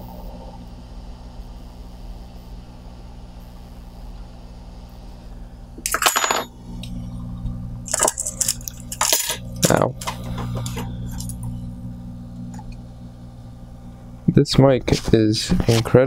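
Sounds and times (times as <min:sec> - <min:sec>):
hot air station humming and blowing: 0:00.0 - 0:16.0.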